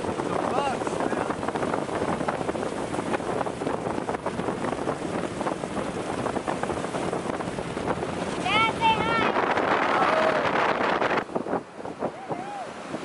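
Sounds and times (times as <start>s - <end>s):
water noise: 0.0s - 13.0s
wind buffeting microphone: 0.0s - 13.0s.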